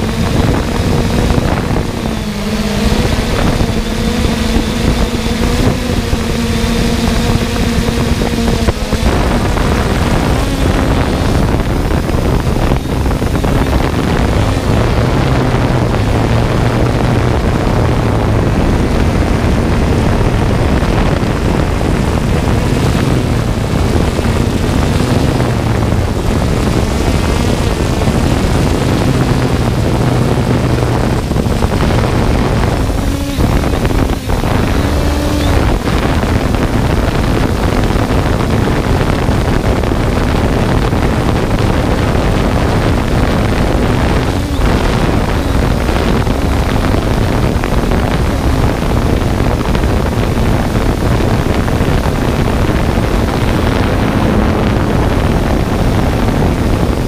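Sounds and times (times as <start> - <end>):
drone propellers humming: 0.0 - 57.0
wind noise on microphone: 0.0 - 57.0.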